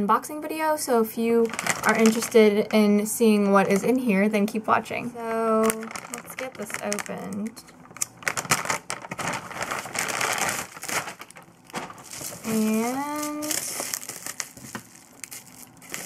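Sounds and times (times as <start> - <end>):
foil bag and bubble wrap crinkling: 1.2 - 16.0.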